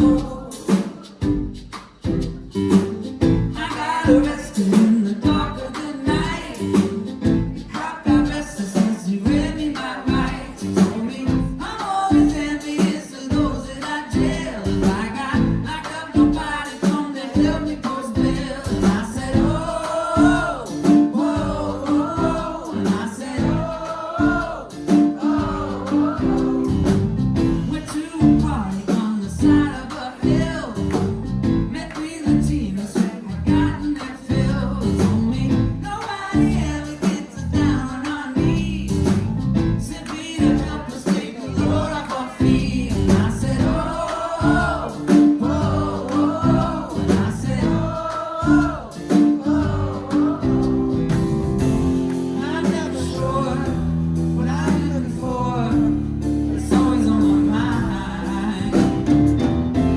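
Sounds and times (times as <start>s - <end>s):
guitar: 0.0s - 59.9s
person singing lead vocal: 0.0s - 59.9s
steady drum beat: 0.0s - 59.9s.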